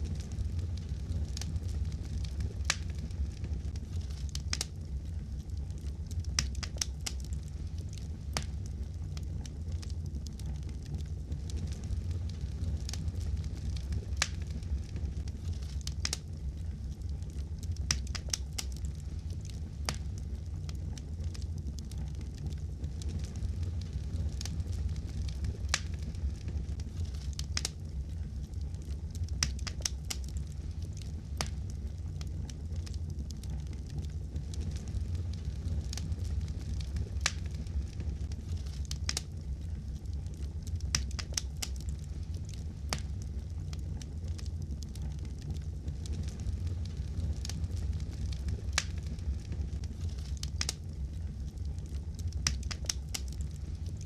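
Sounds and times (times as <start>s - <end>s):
rumble of flames: 0.0s - 54.0s
wood fire crackling: 0.0s - 54.0s.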